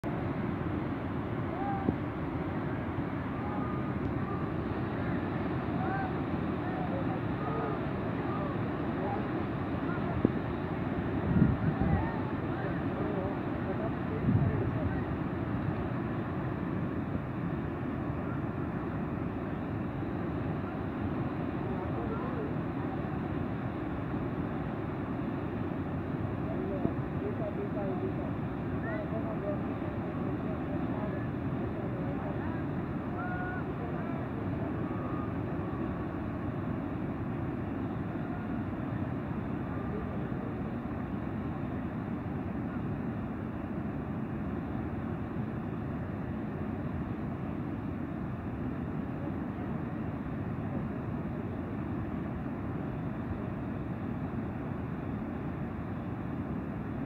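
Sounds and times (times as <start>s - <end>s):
waterfall roaring: 0.1s - 57.0s.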